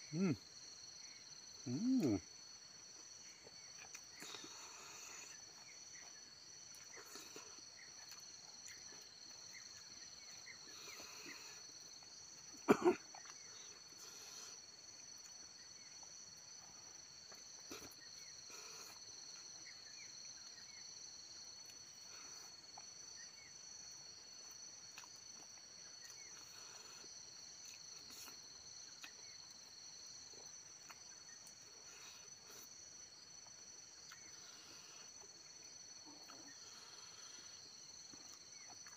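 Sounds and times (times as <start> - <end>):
insects chirring: 0.0 - 38.9
eating by hand from leaf: 0.1 - 38.9.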